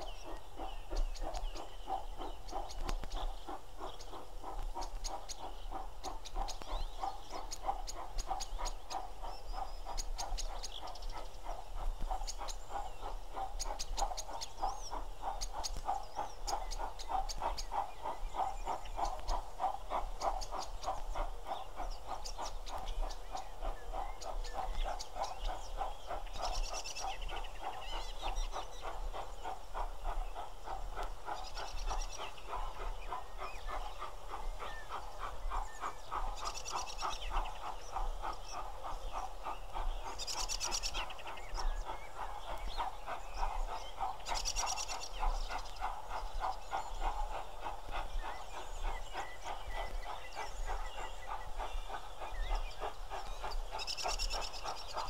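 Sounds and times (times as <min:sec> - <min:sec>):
birds calling: 0:00.0 - 0:55.0
steam locomotive chuffing: 0:00.0 - 0:55.0.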